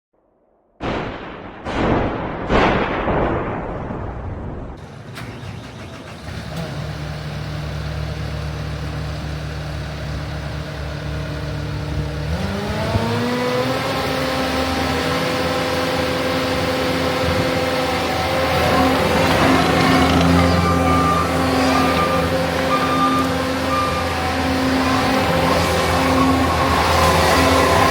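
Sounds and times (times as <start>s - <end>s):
diesel engine idling and revving: 4.8s - 27.9s.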